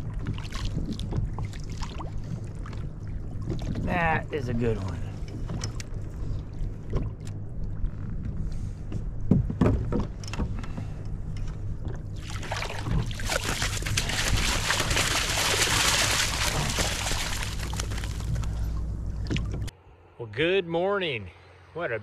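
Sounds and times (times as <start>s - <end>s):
water sloshing around a kayak: 0.0s - 19.8s
low steady rumble: 0.0s - 22.0s.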